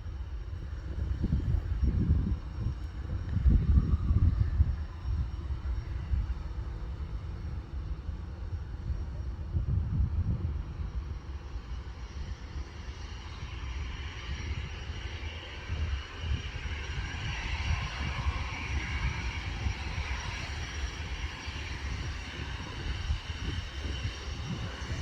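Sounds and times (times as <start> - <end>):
passing plane engine: 0.0 - 25.0
wind buffeting microphone: 0.0 - 25.0.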